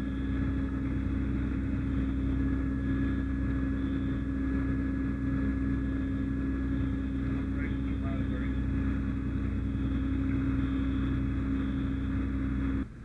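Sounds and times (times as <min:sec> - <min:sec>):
fire engine engine running: 0:00.0 - 0:13.0.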